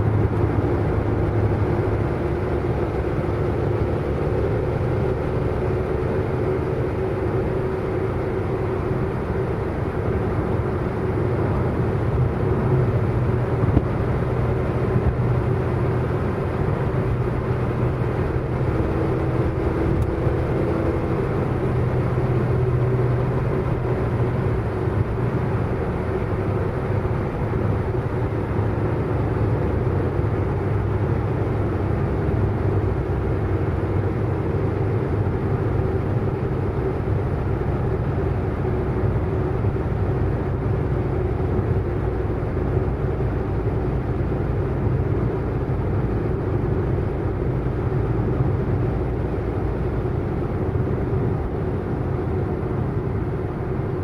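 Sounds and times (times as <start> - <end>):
car engine drone: 0.0 - 54.0
road rumble: 0.0 - 54.0.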